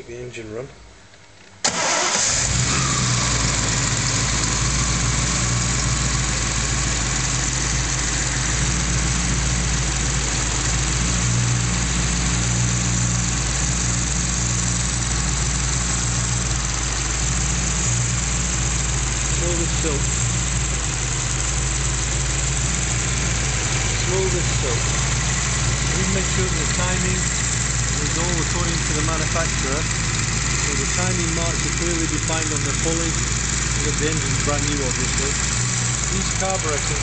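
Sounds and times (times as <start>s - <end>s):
car engine idling: 1.6s - 37.0s.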